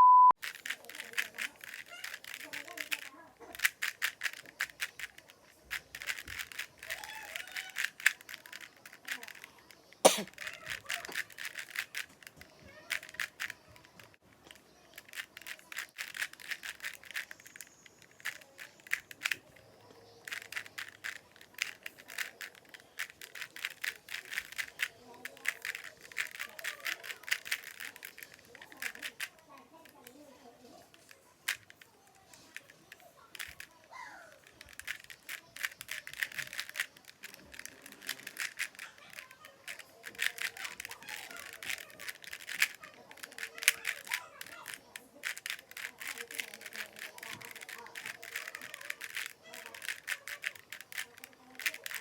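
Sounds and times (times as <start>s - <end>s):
plastic puzzle cube clicking: 0.4s - 30.2s, 30.9s - 52.0s.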